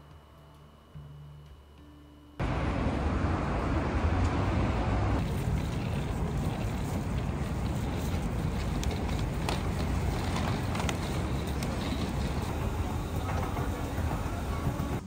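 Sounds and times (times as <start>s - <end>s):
city street rumble: 2.4s - 15.0s
wind buffeting microphone: 2.4s - 15.0s.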